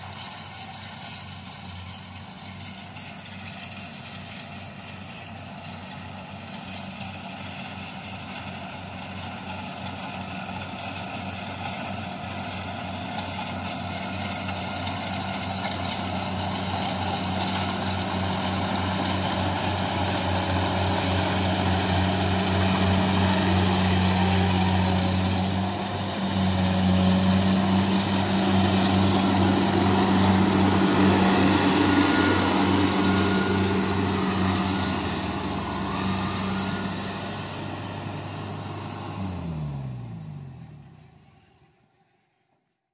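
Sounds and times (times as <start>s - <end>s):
cutter and threshing machinery whir: 0.0s - 41.6s
combine harvester engine hum: 0.0s - 42.2s.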